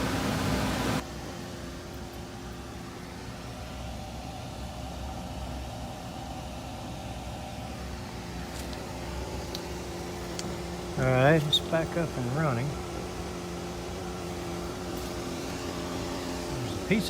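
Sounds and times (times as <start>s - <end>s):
gas furnace humming: 0.0s - 17.0s.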